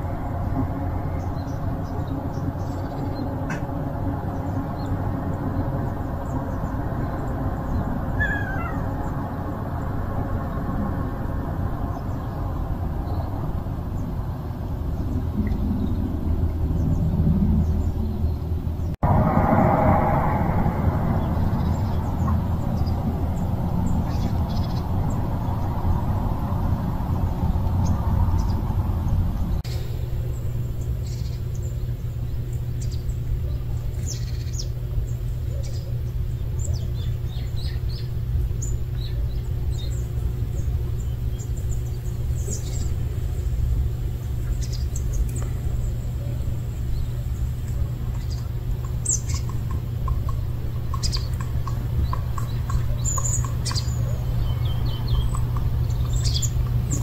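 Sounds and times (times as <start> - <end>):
small birds chirping: 0.0 - 10.8, 21.3 - 57.0
steady low rumble: 0.0 - 57.0.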